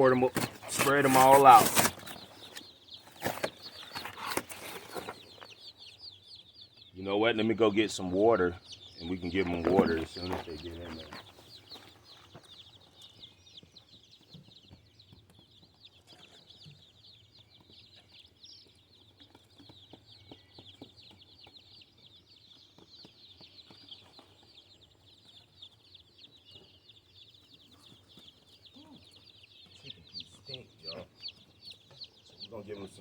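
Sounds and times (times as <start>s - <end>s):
chicks peeping: 0.0s - 33.0s.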